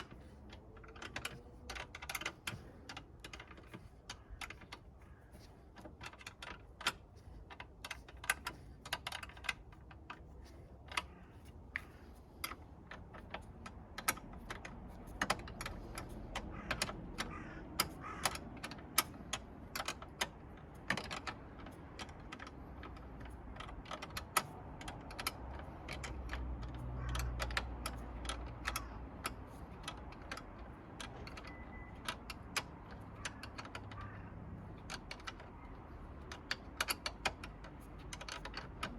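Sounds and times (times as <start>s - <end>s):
tools clicking and tapping: 0.0s - 38.9s.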